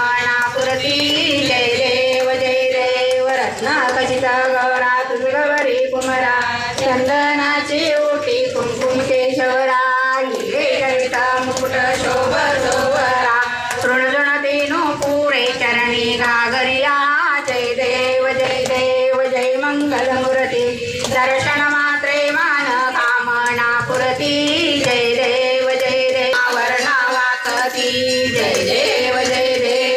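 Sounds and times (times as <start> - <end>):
women singing a cradle song: 0.0 - 29.9.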